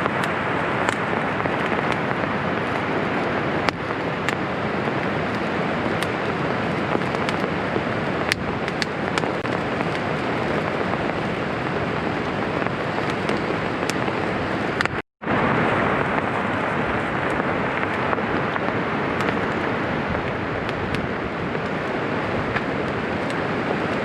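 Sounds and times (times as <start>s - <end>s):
heavy rain downpour: 0.0s - 24.0s.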